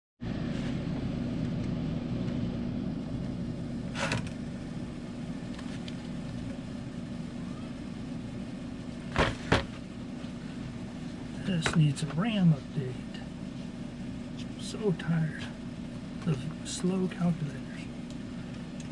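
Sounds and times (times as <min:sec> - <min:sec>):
air conditioner humming: 0:00.2 - 0:18.9.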